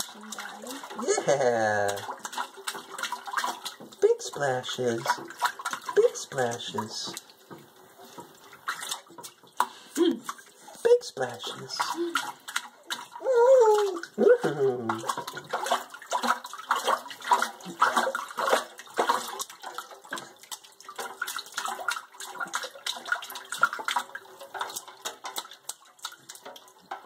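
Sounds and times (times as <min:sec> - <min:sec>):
baby slapping water: 0:00.0 - 0:27.0.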